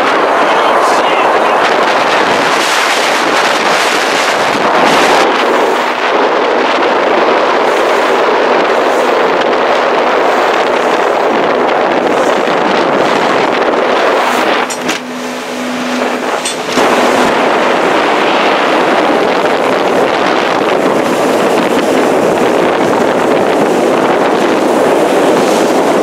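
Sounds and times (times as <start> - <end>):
motorboat engine hum: 0.0 - 26.0
rushing water: 0.0 - 26.0
wind buffeting microphone: 0.0 - 26.0.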